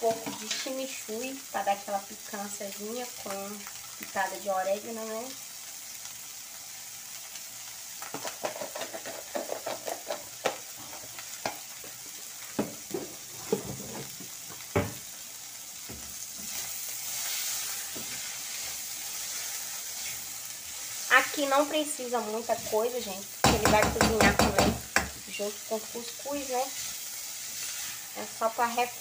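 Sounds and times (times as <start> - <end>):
food sizzling in a frying pan: 0.0 - 29.0.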